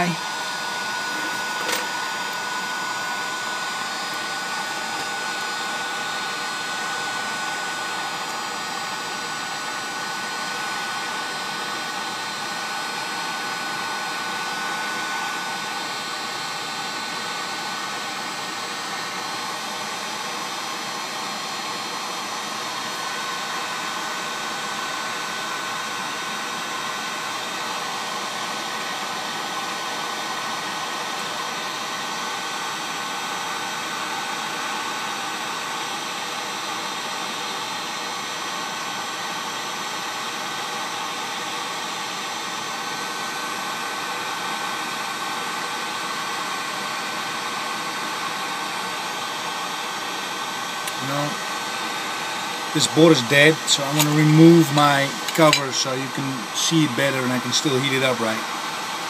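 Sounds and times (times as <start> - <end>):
heat gun blowing air: 0.0 - 40.5, 41.2 - 59.0.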